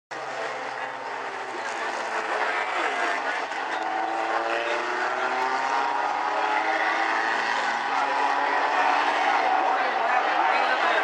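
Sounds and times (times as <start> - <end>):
race car engines droning: 0.1 - 11.0.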